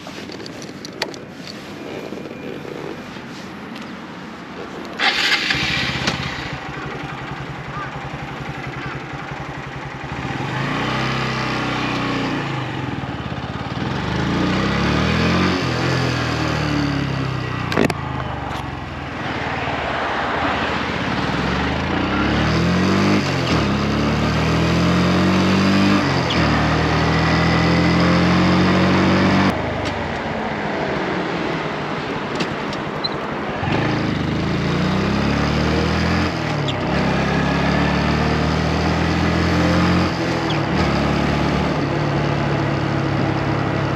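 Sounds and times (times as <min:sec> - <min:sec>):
motorcycle engine accelerating: 0:04.9 - 0:29.8, 0:33.0 - 0:43.9.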